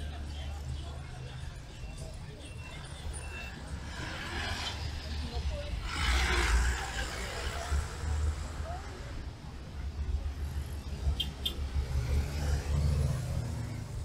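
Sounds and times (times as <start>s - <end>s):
faint voices: 0.0s - 14.0s
vehicle engine rumbling: 0.0s - 14.0s.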